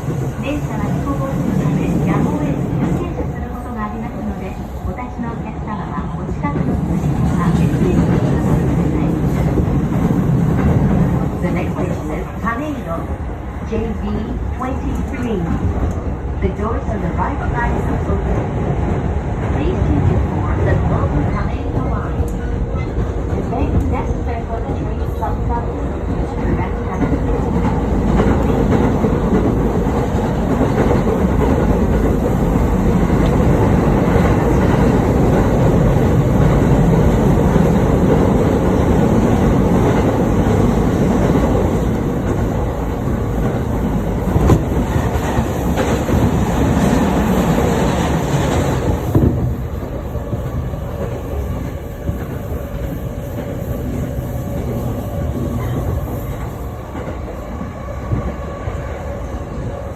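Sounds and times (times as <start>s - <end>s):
train wheels rumbling on rails: 0.0s - 59.9s
train wheels clickety-clack: 6.1s - 12.7s, 17.4s - 59.9s.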